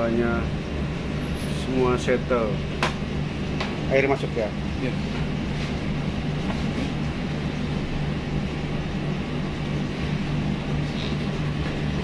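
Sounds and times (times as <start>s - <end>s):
washing machine hum: 0.0s - 12.0s.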